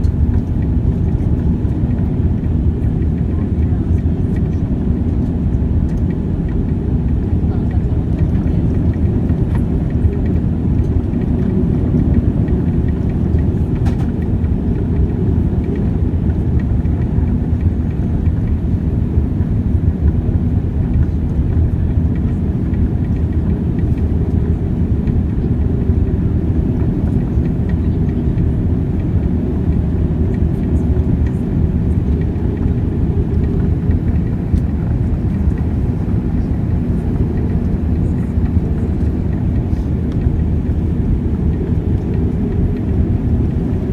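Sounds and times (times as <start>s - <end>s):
airliner cabin engine rumble: 0.0s - 43.9s.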